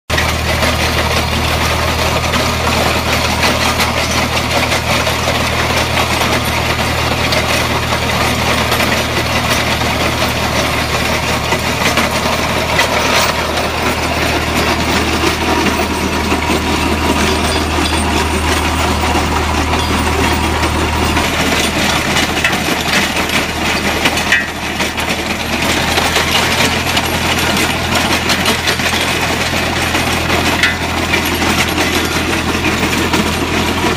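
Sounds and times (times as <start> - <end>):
harrow tines churning stony ground: 0.1 - 33.9
tractor engine hum: 0.1 - 33.9.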